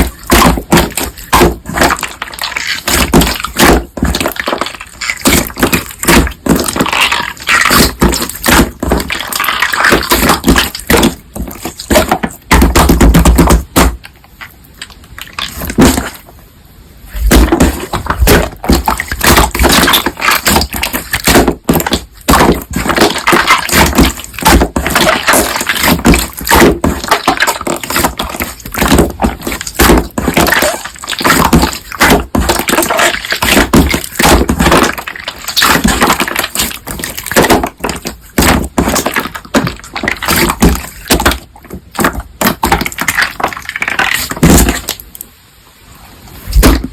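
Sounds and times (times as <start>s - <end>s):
crunchy slime crackling: 0.0s - 16.3s, 17.1s - 45.2s
slime squelch: 0.0s - 45.3s.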